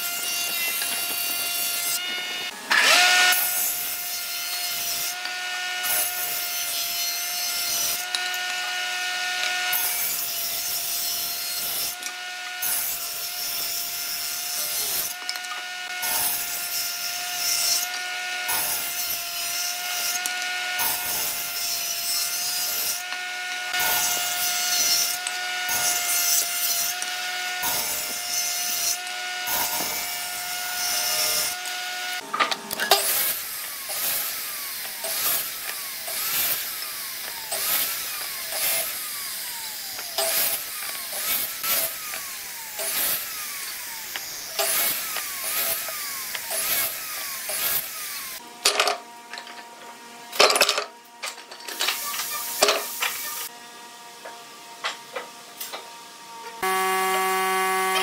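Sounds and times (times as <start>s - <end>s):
table saw cutting wood: 0.0s - 58.0s.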